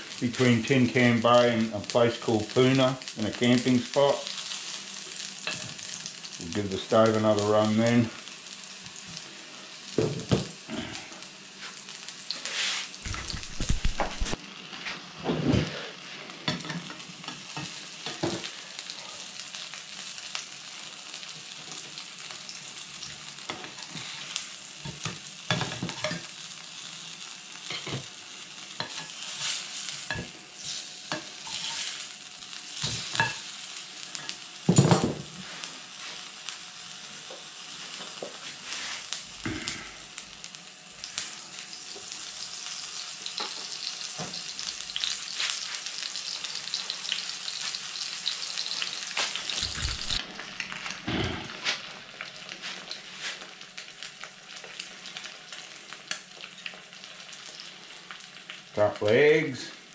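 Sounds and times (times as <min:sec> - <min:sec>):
food sizzling in frying pan: 0:00.0 - 0:59.9.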